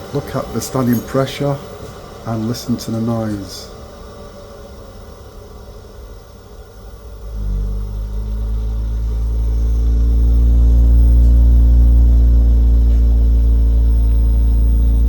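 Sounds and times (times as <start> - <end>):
gas boiler humming: 0.0 - 15.0.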